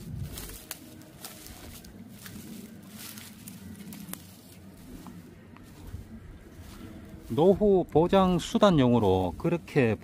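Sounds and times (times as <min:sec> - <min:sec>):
footsteps in dry grass: 0:00.0 - 0:10.0.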